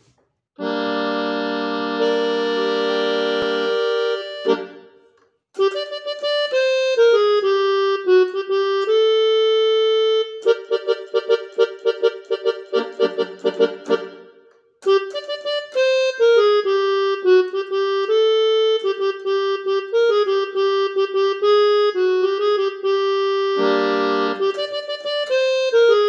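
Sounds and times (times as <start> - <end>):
electronic keyboard melody: 0.6 - 26.0.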